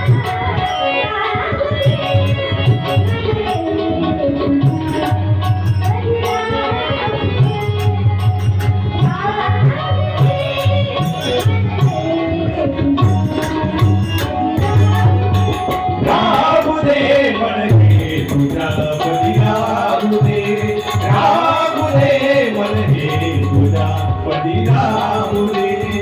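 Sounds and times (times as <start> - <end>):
instrumental melody: 0.0 - 26.0
jingling hand percussion: 0.0 - 26.0
tabla playing a beat: 0.0 - 26.0.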